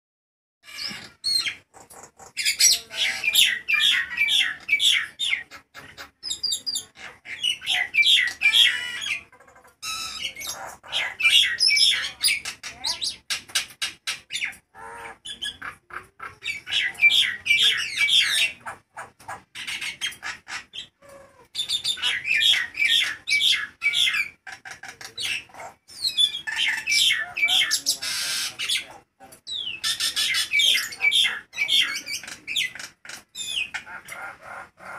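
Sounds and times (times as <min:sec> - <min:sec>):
myna bird singing: 0:00.6 - 0:34.9.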